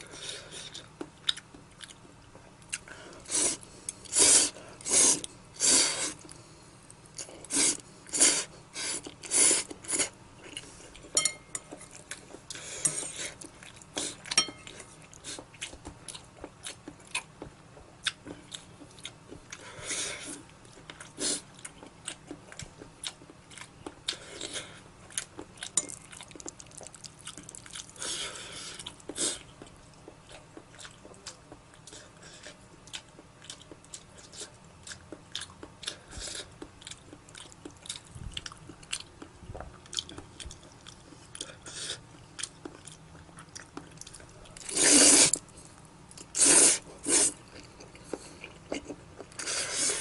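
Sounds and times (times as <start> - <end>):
person chewing noodles: 0.0 - 50.0.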